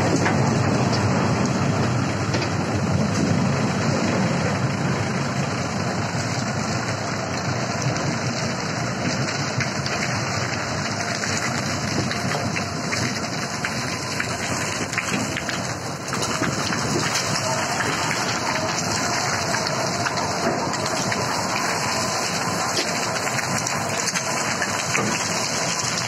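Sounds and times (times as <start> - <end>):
heavy machinery running: 0.0 - 26.0.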